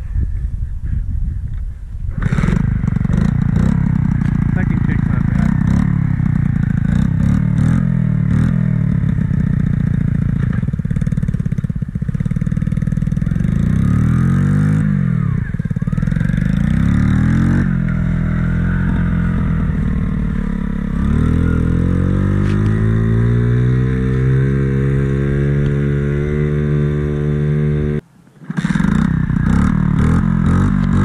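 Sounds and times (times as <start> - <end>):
small motorbike engine revving: 2.1 - 31.0.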